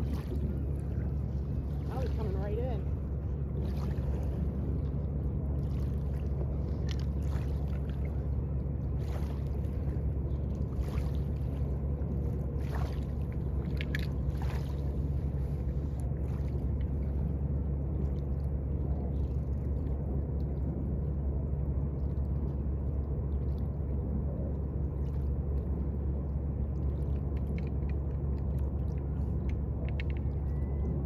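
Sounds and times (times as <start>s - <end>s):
faint ticks and splashes: 0.0s - 31.0s
low motor drone: 0.0s - 31.0s.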